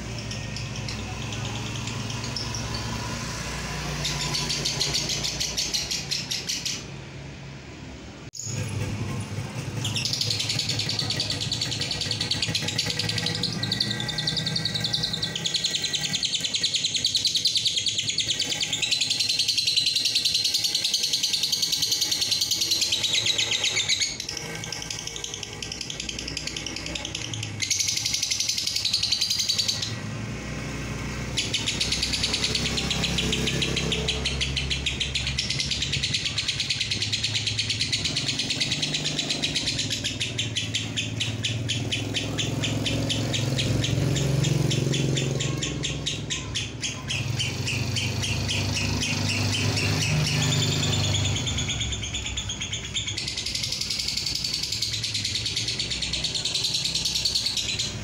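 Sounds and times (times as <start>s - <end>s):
lovebird high-pitched chatter: 0.0s - 7.0s, 8.4s - 58.0s.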